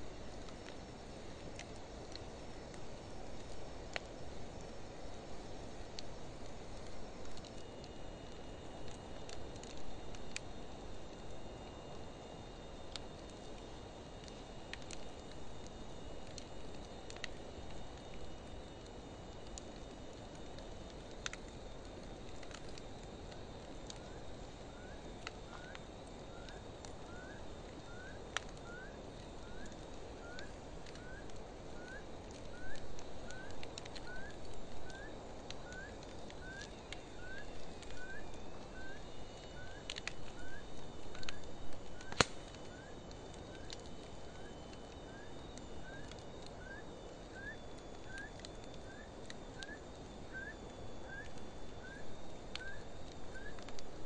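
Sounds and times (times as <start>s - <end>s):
campfire crackling and popping: 0.0s - 54.0s
flame surges: 0.0s - 54.0s.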